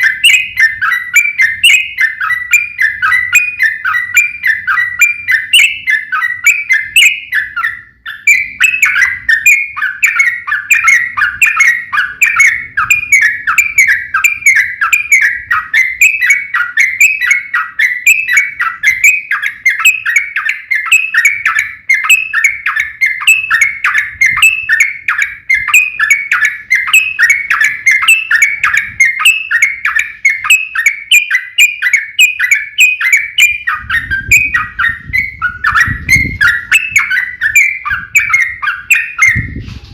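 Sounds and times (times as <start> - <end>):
bulbul song: 0.0 - 39.6.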